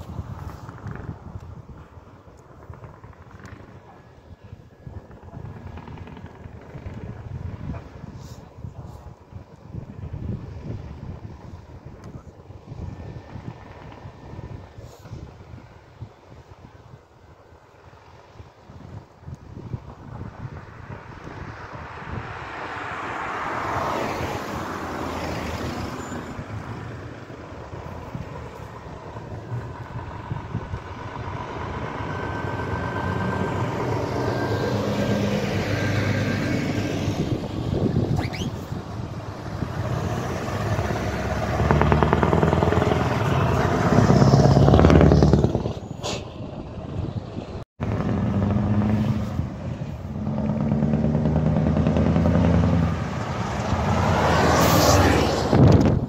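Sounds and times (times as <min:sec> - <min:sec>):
trucks driving past: 0:00.0 - 0:56.0.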